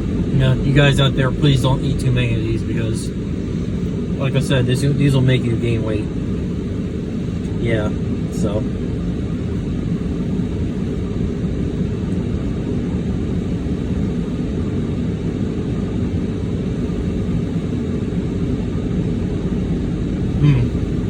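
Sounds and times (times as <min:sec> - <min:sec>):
car engine rumble inside cabin: 0:00.0 - 0:21.0.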